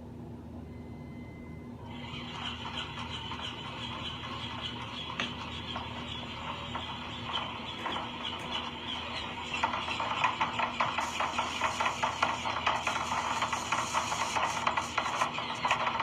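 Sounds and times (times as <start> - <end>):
motor hum: 0.6 - 16.0.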